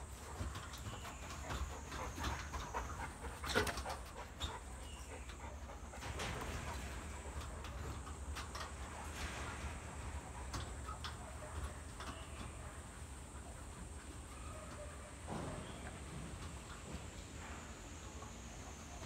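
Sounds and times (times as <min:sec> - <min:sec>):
dogs shuffling and clicking: 0:00.0 - 0:19.0.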